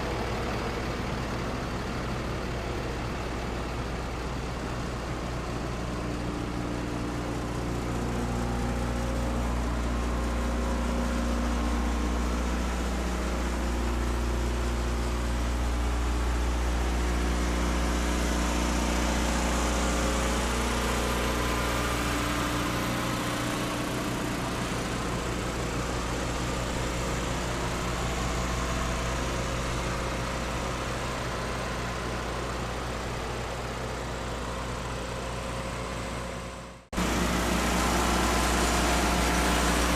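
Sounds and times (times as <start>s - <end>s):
street sweeper engine idling: 0.0s - 39.9s.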